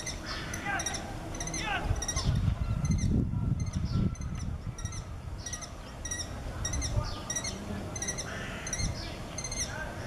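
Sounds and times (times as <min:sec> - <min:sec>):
kestrels calling: 0:00.0 - 0:09.9.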